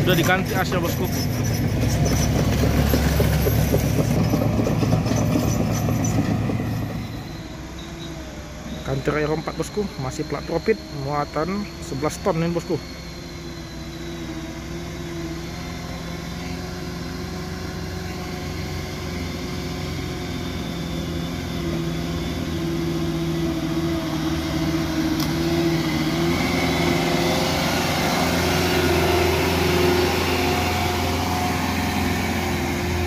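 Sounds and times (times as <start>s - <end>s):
truck diesel engine passing: 0.0s - 10.5s, 15.5s - 33.0s.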